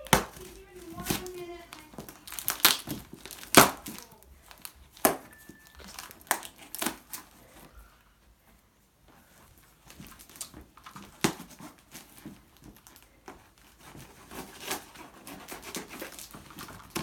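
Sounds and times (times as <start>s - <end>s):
packaging crinkling: 0.0s - 7.7s, 9.7s - 17.0s.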